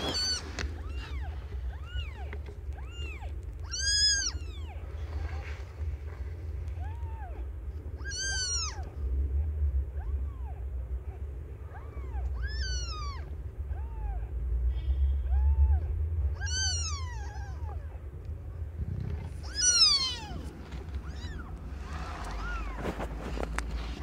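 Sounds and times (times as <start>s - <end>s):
kittens mewing: 0.0s - 24.0s
steady low rumble: 0.0s - 24.0s.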